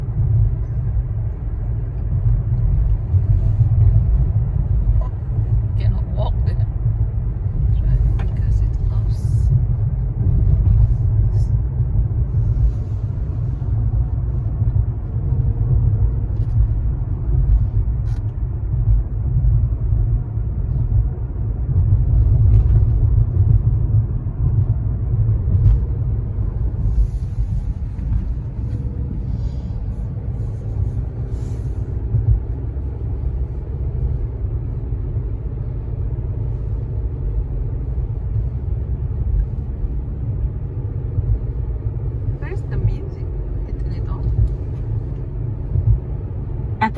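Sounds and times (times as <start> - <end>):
car interior road rumble: 0.0 - 46.9.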